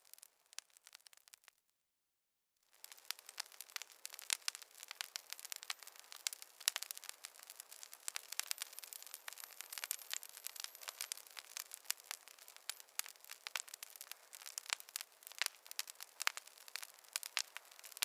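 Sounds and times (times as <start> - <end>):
soft steady hiss: 0.0 - 1.4, 2.7 - 18.0
wood fire crackling: 0.0 - 1.6, 2.7 - 18.0.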